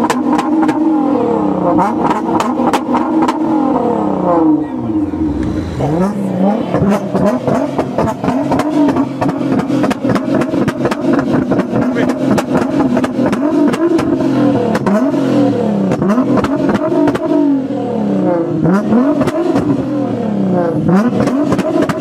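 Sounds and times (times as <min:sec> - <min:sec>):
exhaust crackle: 0:00.0 - 0:17.6
car engine revving: 0:00.0 - 0:22.0.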